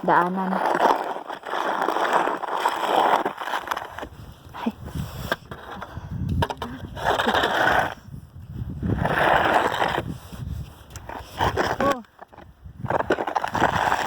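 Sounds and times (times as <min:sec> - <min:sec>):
snow shovel scraping snow: 0:00.0 - 0:06.1, 0:06.7 - 0:14.0.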